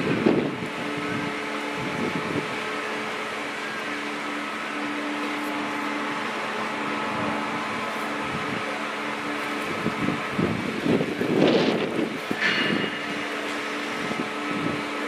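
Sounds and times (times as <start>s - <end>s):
truck engine and hydraulics humming: 0.0s - 15.0s.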